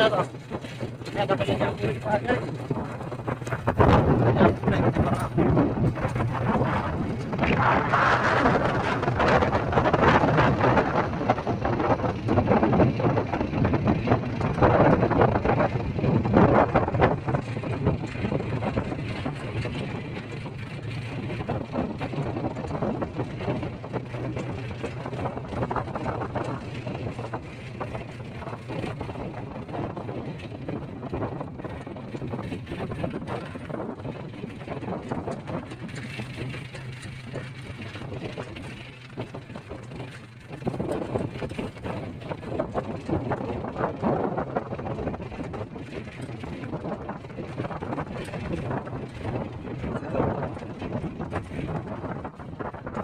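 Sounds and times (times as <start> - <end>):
road and wind noise: 0.0 - 53.0
vehicle engine hum: 0.0 - 53.0.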